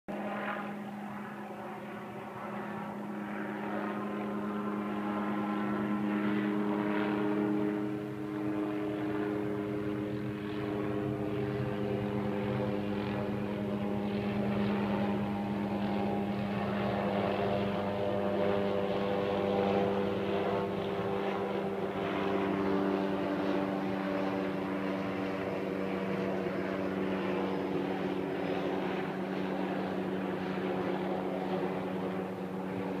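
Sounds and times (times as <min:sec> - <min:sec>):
helicopter engine and rotor drone: 0:00.1 - 0:33.0.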